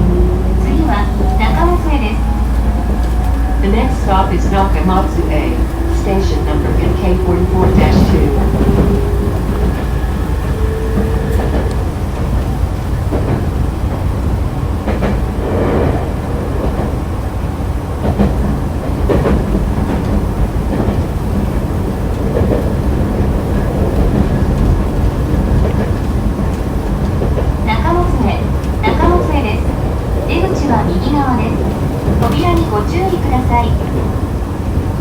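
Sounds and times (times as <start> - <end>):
wheels clacking over rail joints: 0.0 - 16.0, 18.0 - 35.0
train rumbling: 0.0 - 35.0.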